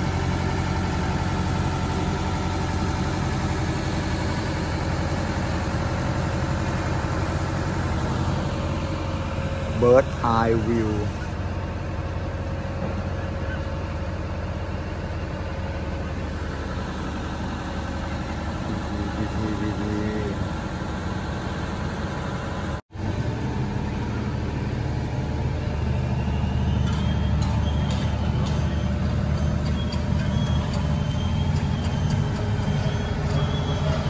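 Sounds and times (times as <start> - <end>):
heavy vehicle engines running: 0.0 - 34.0
road traffic rumble: 0.0 - 34.0.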